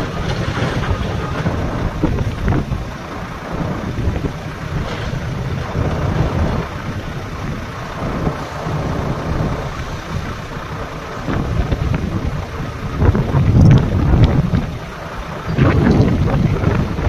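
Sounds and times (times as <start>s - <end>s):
diesel machinery rumbling: 0.0s - 17.0s.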